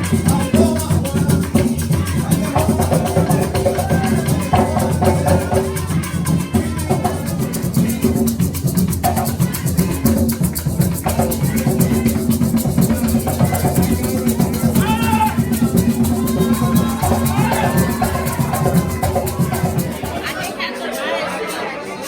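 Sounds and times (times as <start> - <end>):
drums: 0.0 - 20.4
maracas shaking: 0.0 - 22.0.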